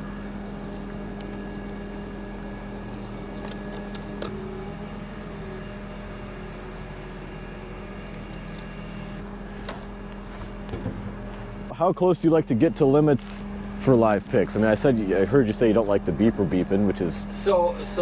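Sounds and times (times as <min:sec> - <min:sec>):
crane engine humming: 0:00.0 - 0:18.0.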